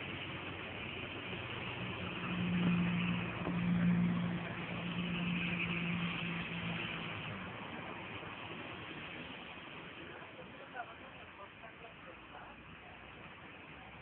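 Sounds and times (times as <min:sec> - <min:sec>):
rain hiss: 0:00.0 - 0:13.9
vehicle engine hum: 0:00.0 - 0:14.0.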